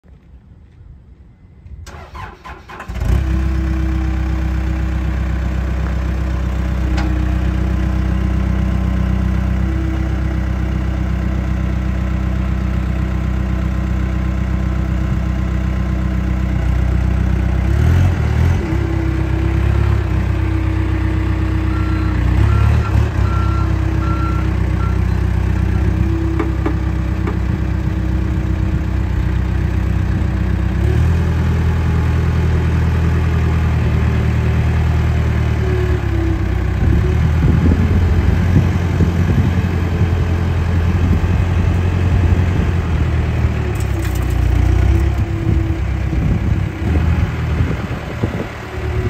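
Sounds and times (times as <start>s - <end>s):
diesel engine cranking and idling: 1.7s - 49.0s.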